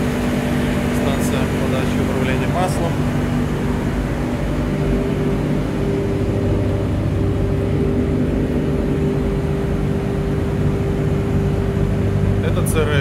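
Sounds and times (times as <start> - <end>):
refrigeration compressors humming: 0.0 - 13.0.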